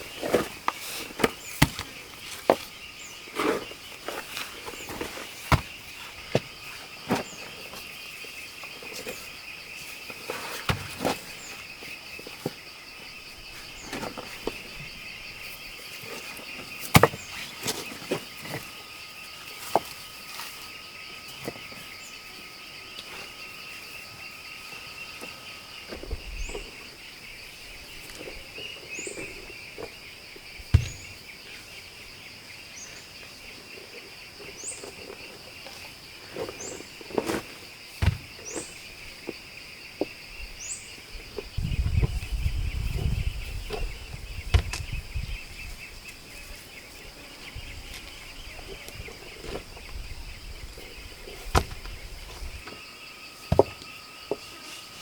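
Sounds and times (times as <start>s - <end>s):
insect chorus chirring: 0.0s - 55.0s.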